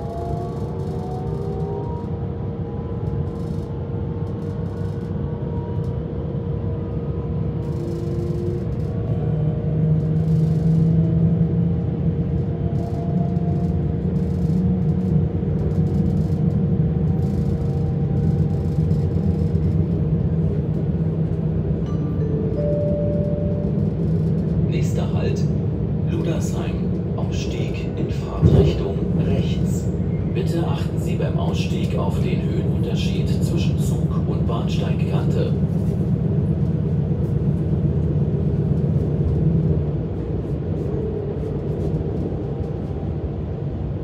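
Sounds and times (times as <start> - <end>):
train running rumble: 0.0 - 44.0.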